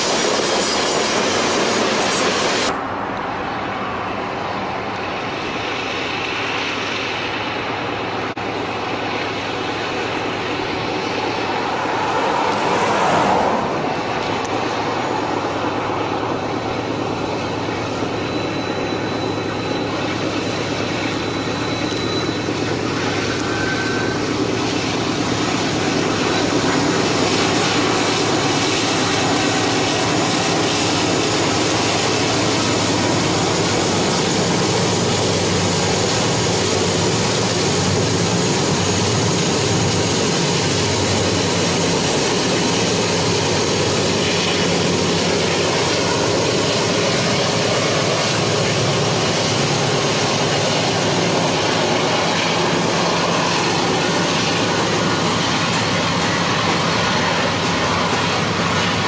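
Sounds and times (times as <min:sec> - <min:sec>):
train rumble: 0:00.0 - 0:59.0
diesel engine drone: 0:01.1 - 0:59.0.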